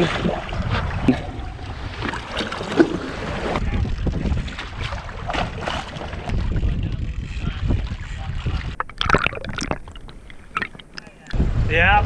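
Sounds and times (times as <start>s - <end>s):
water splashing against kayak: 0.0s - 11.4s
wind buffeting microphone: 0.0s - 12.0s.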